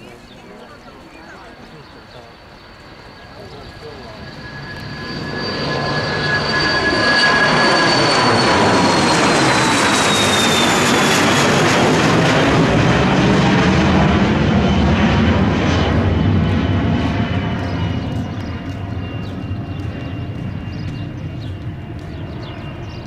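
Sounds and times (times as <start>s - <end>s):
high jet whine: 0.0s - 23.0s
jet engines at takeoff power: 0.0s - 23.0s.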